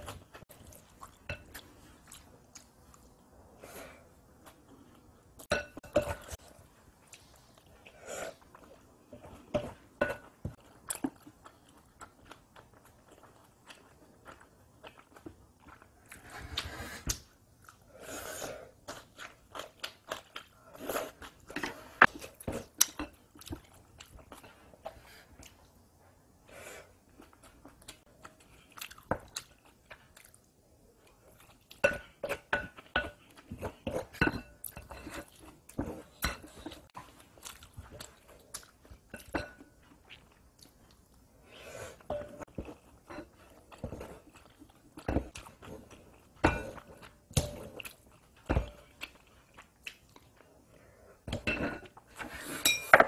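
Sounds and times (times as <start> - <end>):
person chewing crunchy food: 0.0 - 3.3, 6.2 - 25.9, 26.9 - 50.8.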